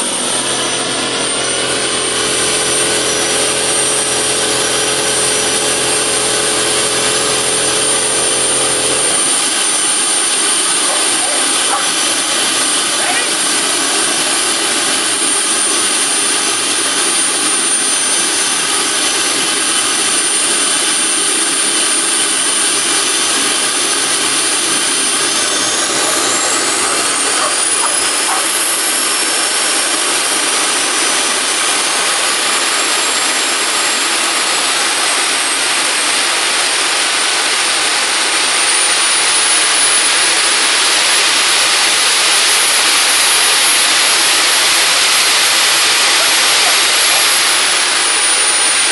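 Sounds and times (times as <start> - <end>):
jet engine roaring with whine: 0.0 - 48.9.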